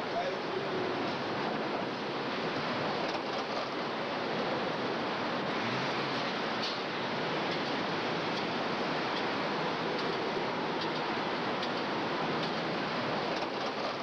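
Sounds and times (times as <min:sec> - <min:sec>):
city street traffic din: 0:00.0 - 0:14.0.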